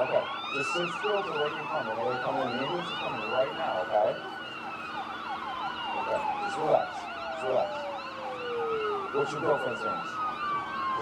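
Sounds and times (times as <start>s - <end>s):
emergency vehicle sirens: 0.0s - 11.0s.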